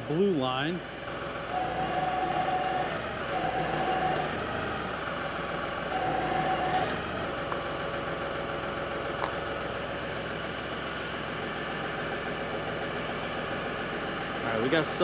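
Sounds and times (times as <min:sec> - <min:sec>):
diesel engine idling: 0:00.0 - 0:15.0
hydraulic whine: 0:00.8 - 0:15.0.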